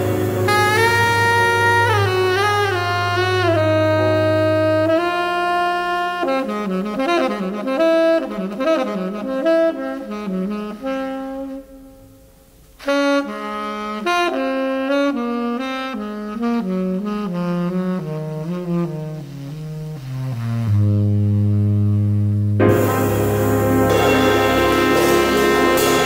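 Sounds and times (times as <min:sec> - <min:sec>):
tenor saxophone jazz ballad: 0:00.0 - 0:26.0.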